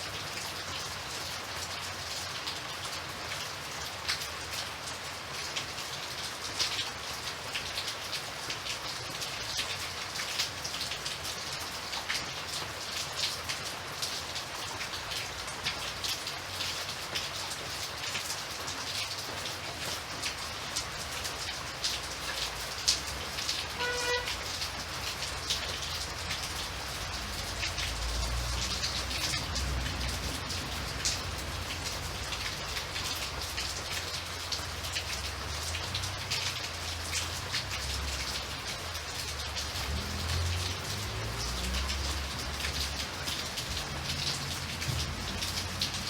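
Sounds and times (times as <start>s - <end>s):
rain drops ticking on a surface: 0.0s - 46.0s.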